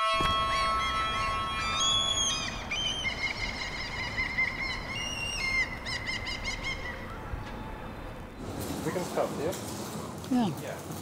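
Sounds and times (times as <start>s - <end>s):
low background rumble: 0.0s - 10.3s
small birds chirping: 0.2s - 9.2s.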